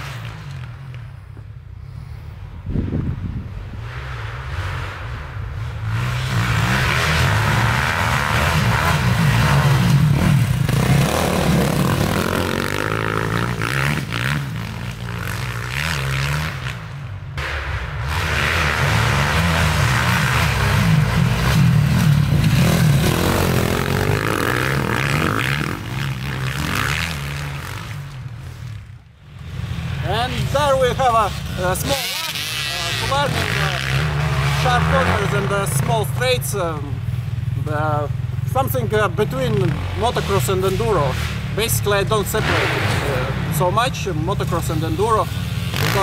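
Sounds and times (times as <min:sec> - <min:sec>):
motorcycle engines revving: 0:00.0 - 0:01.7, 0:02.9 - 0:46.0.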